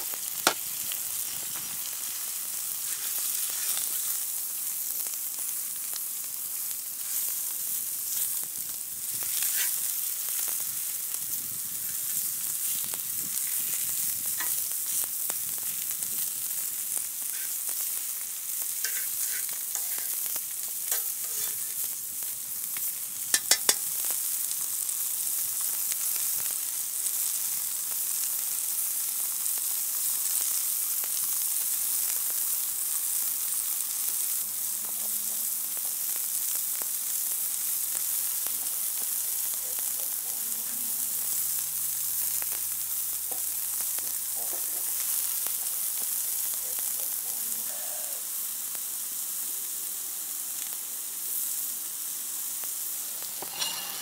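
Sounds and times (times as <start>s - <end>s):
food sizzling in hot fat: 0.0s - 54.0s.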